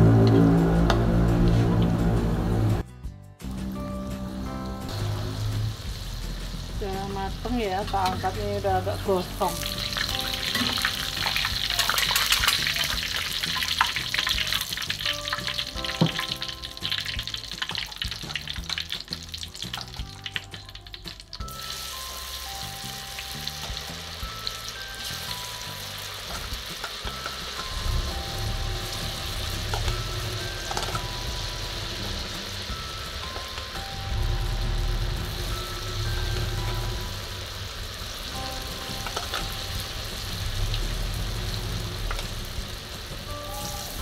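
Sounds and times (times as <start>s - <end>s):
food deep-frying in oil: 3.6s - 44.0s.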